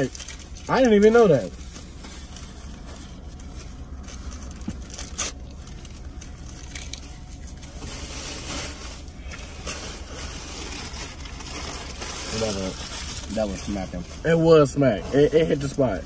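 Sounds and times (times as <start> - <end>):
food wrappers rustling: 0.0 - 16.0
steady low rumble: 0.0 - 16.0.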